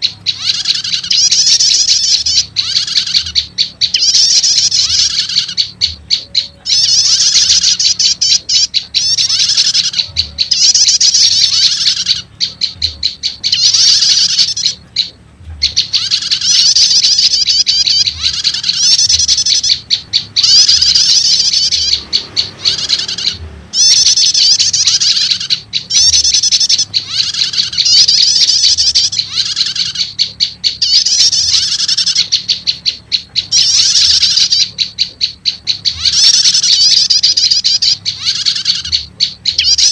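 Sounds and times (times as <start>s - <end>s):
bird chattering trills: 0.0s - 39.9s
bird rapid ticking: 0.0s - 39.9s.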